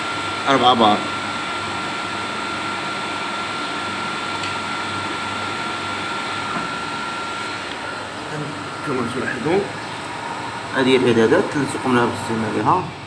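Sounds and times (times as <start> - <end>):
electric water pump humming: 0.0 - 13.0.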